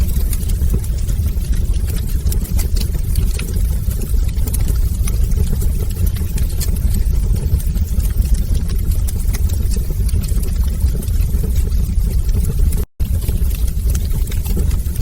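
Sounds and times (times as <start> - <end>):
fire crackling: 0.0 - 15.0
fire low rumble: 0.0 - 15.0.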